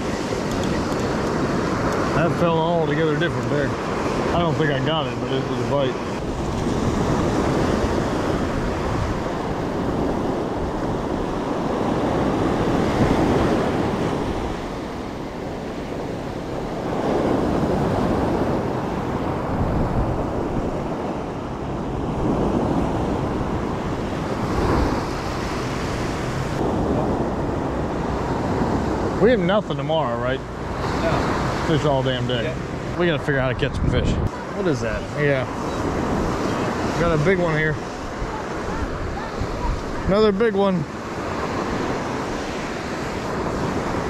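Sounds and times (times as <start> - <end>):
ocean surf breaking: 0.0 - 44.0.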